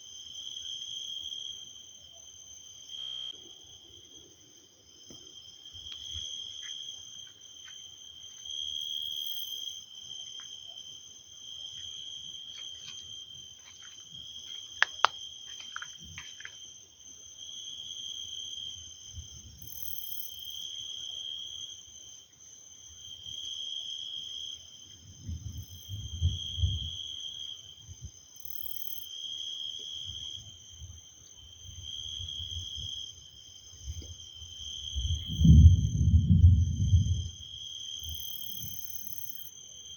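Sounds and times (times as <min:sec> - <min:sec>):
insects trilling: 0:00.2 - 0:24.9, 0:25.5 - 0:39.9.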